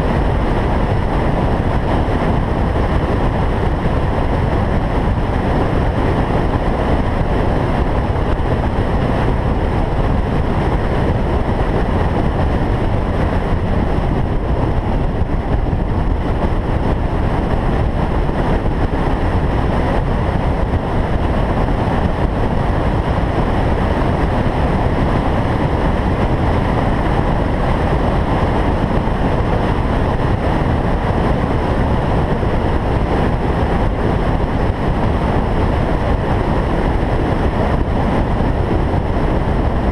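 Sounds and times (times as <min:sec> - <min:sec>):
car cruising with road and wind noise: 0:00.0 - 0:39.9.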